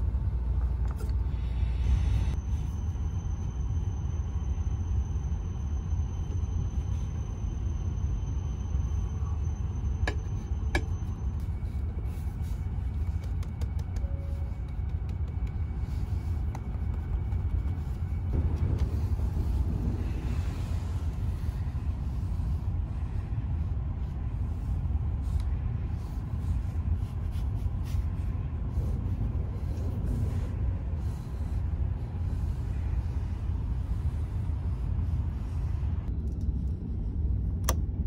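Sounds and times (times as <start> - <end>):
train rumble inside cabin: 0.0 - 38.0.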